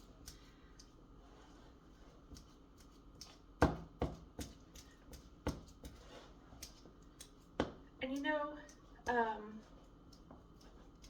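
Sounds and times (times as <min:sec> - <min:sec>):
fork mashing bananas: 0:00.0 - 0:11.0.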